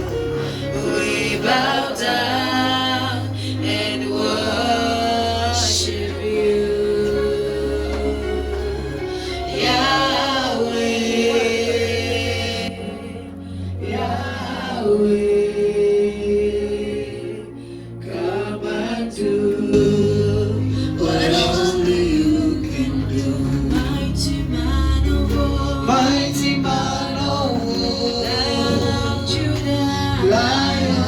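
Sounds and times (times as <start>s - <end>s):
low instrumental accompaniment: 0.0s - 31.0s
voices singing gospel: 0.0s - 31.0s.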